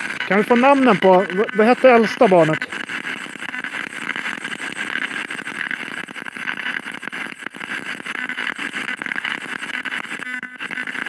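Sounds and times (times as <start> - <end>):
choppy radio static: 0.0 - 11.0.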